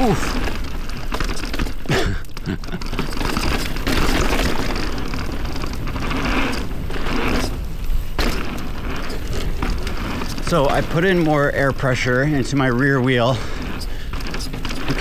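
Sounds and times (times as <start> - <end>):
bike chain and frame rattle: 0.0 - 15.0
bike tyres on dirt trail: 0.0 - 15.0.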